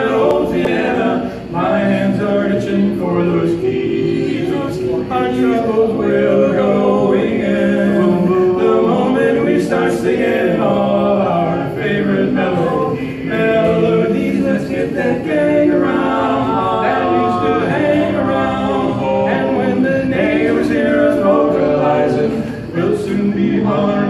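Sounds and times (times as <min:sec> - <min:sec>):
men singing in close harmony: 0:00.0 - 0:24.0.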